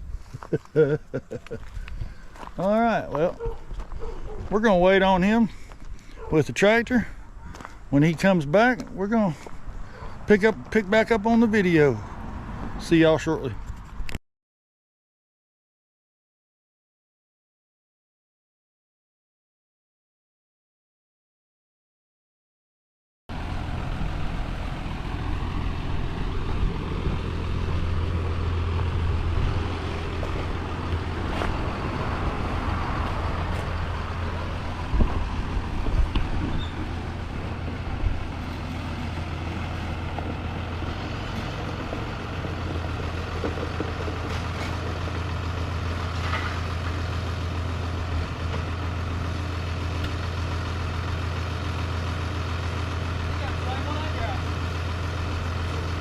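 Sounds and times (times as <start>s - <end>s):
vehicle engine humming: 0.0s - 14.2s, 23.3s - 56.0s.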